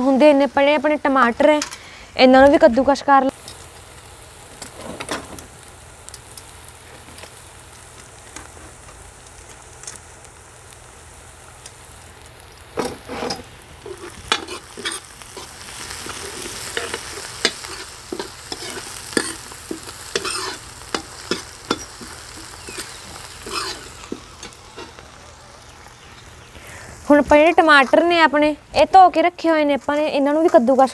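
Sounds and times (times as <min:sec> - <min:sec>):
onions sizzling in oil: 0:00.0 - 0:30.9.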